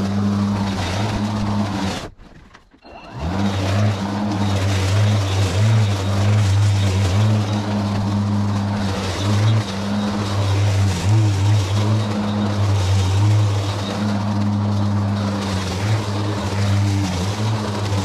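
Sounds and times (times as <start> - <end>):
electric lawn mower humming: 0.0 - 2.2, 2.8 - 18.0.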